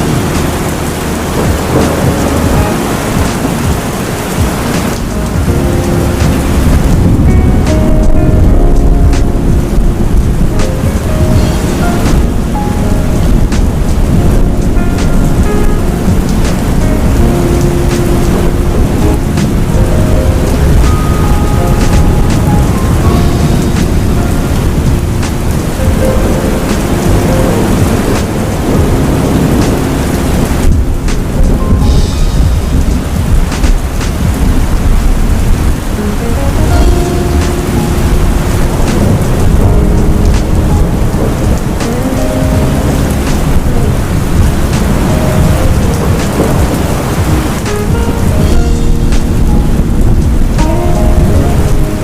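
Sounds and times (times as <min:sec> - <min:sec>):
close raindrop hits: 0:00.0 - 0:52.0
low thunder rumble: 0:00.0 - 0:52.0
rain hissing: 0:00.0 - 0:52.0.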